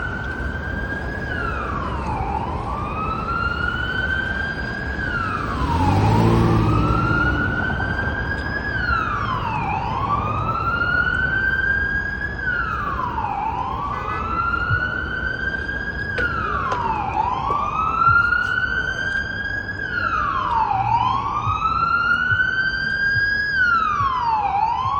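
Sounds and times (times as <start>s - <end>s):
vehicle engine: 0.0s - 23.1s
police car siren wailing: 0.0s - 24.9s
traffic noise: 0.0s - 24.9s.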